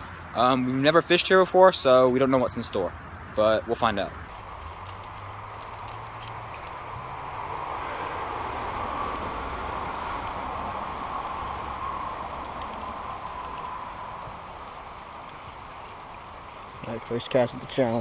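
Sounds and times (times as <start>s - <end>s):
insects chorus: 0.0s - 18.0s
broad rushing noise: 2.9s - 18.0s.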